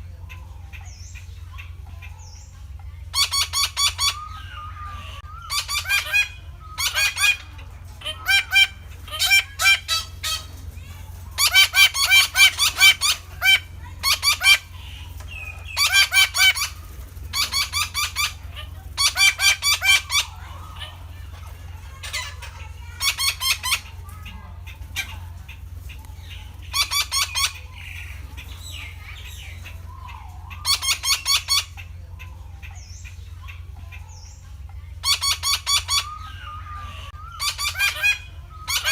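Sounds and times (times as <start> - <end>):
steady low hum: 0.0 - 38.9
parakeet harsh calls: 3.1 - 10.6, 11.3 - 21.3, 21.9 - 34.3, 35.0 - 38.9.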